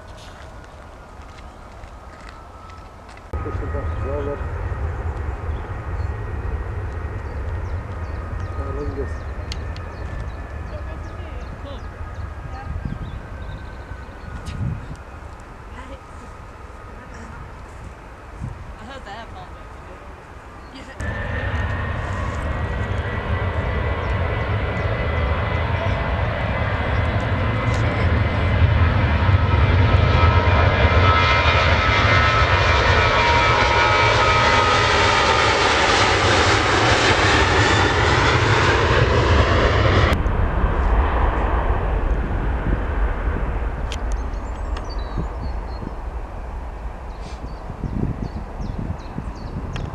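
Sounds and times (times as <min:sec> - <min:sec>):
airliner passing: 0:00.0 - 0:49.9
high jet engine whine: 0:00.0 - 0:49.9.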